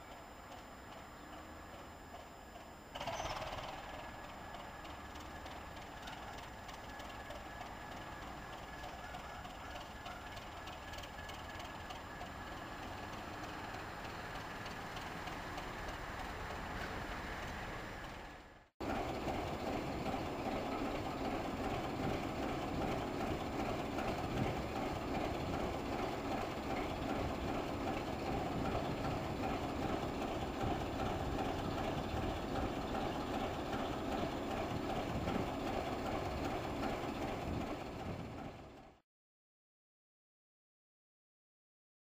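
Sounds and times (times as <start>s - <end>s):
diesel locomotive engine idling: 0.0s - 39.0s.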